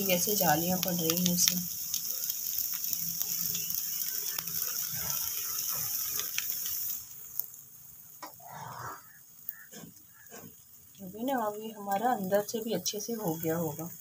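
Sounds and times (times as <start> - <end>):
crackling pops: 0.0 - 8.4, 9.0 - 13.9
batter sizzling on hot pan: 0.0 - 14.0.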